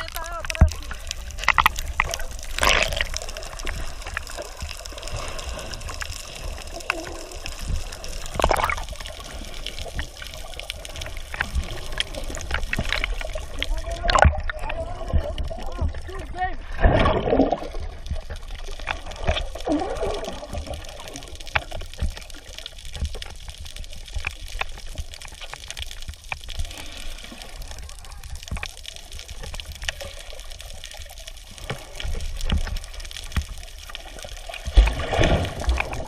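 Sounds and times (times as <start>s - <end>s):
low uneven rumble: 0.0s - 36.0s
water splashing and trickling: 0.0s - 36.0s.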